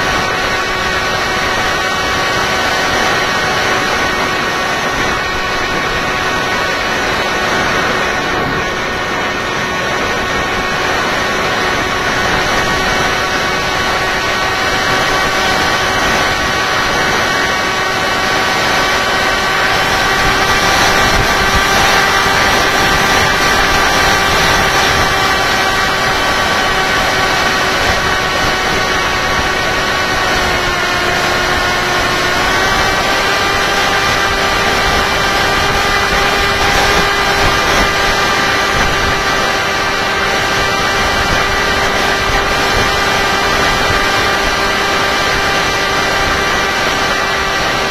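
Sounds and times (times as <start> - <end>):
electric motor and propeller whine: 0.0 - 47.9
rushing air: 0.0 - 47.9.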